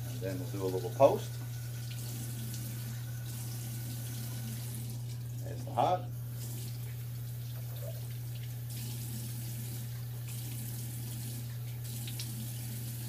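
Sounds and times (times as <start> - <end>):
water running from faucet into sink: 0.0 - 13.0.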